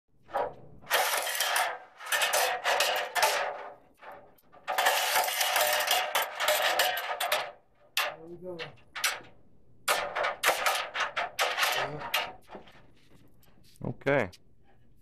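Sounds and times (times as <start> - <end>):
metal ladder rattling and clanking: 0.2 - 13.4.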